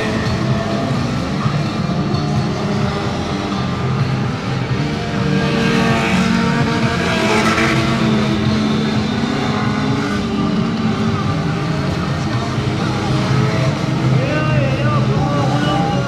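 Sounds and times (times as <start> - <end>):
race car engines at high revs: 0.0 - 16.0.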